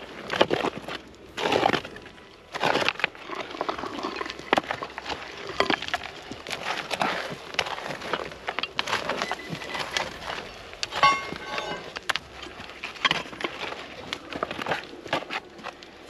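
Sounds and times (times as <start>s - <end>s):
dirt crumbling: 0.0s - 16.0s
hand tool scraping stony soil: 0.0s - 16.0s
stones clinking: 1.6s - 15.9s.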